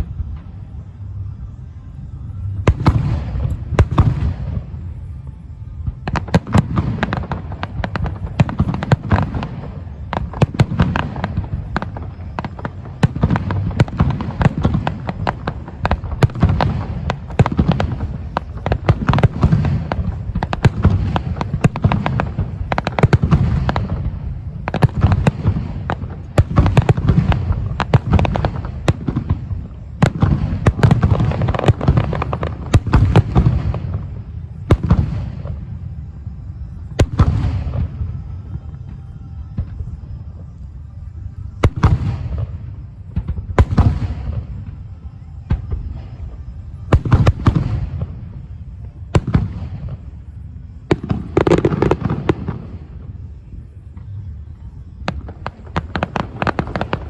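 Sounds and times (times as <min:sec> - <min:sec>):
fireworks booming and crackling: 0:02.4 - 0:57.0.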